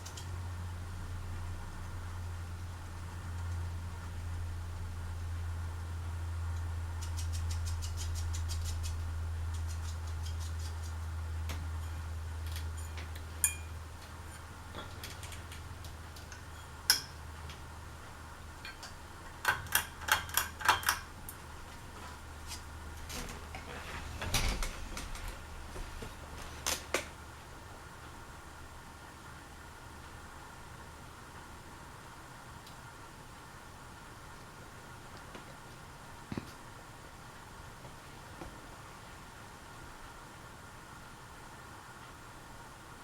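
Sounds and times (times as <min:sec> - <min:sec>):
ceiling fan motor humming: 0:00.0 - 0:43.0.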